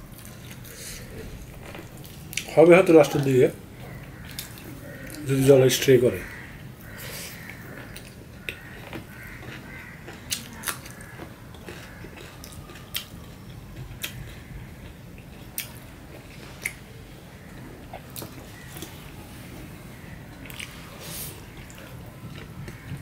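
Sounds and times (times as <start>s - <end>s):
person chewing food: 0.1s - 2.5s, 3.8s - 5.3s, 6.8s - 19.1s, 20.0s - 23.0s.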